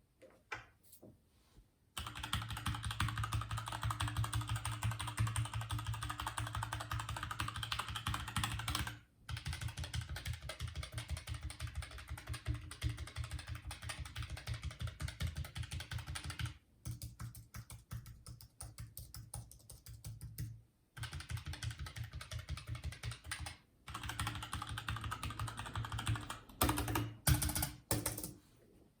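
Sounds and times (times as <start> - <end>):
rapid typing on keyboard: 2.0 - 28.3.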